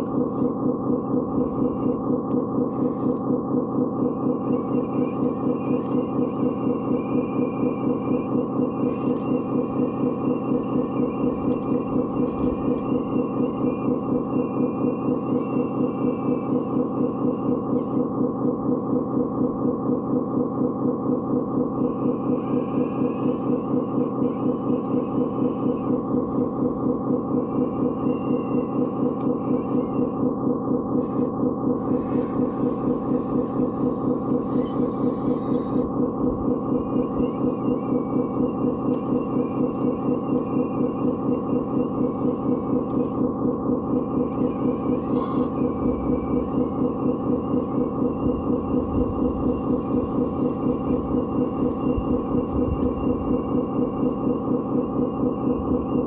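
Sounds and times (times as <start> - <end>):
radio-controlled machine chugging: 0.0 - 56.0
small motor pulsing drone: 0.0 - 56.0.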